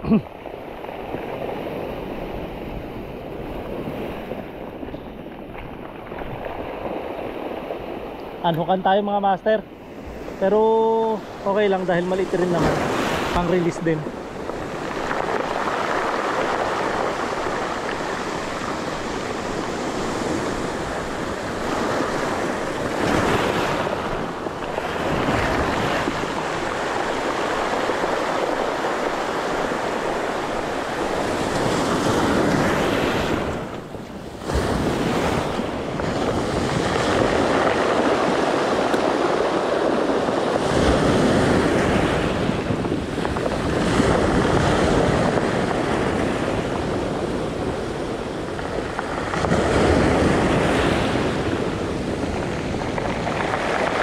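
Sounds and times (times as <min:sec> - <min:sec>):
surf breaking on pebble shore: 0:00.0 - 0:54.0
wind on microphone: 0:00.0 - 0:54.0.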